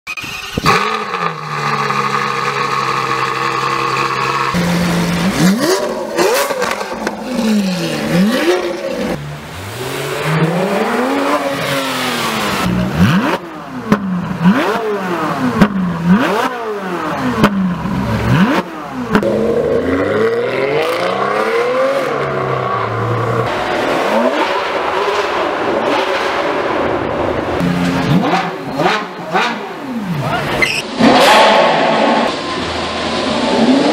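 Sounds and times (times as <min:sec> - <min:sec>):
car engines revving: 0:00.2 - 0:33.9.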